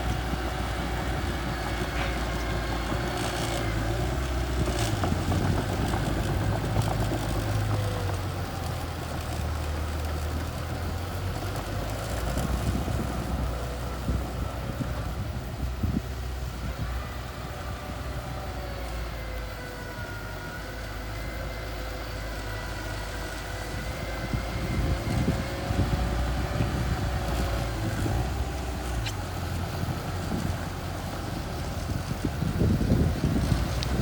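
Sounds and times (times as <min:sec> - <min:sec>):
mini bulldozer engine rumbling: 0:00.0 - 0:34.0.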